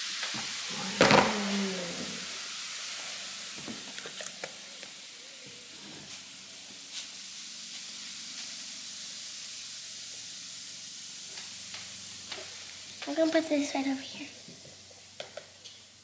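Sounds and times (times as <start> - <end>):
foam fizzing hiss: 0.0 - 16.0.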